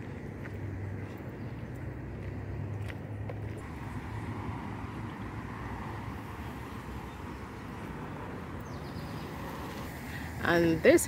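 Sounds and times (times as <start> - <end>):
road traffic rumble: 0.0 - 11.0
vehicle passing: 0.0 - 11.0.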